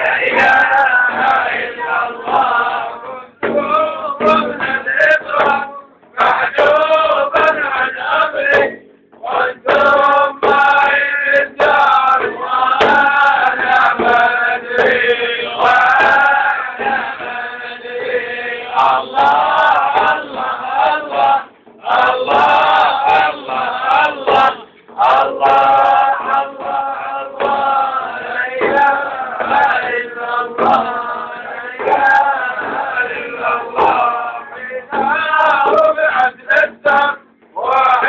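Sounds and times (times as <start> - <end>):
frame drum strokes: 0.0 - 38.0
men chanting devotional song: 0.0 - 38.0.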